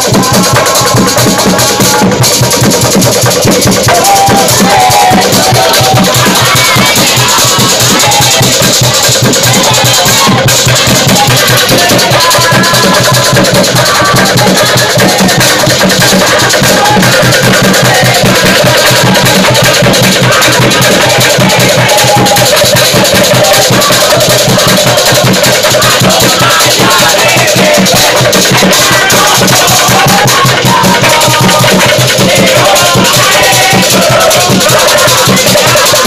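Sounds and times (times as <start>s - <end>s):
group of voices shouting: 0.0s - 36.0s
loud music with fast drum beat: 0.0s - 36.0s.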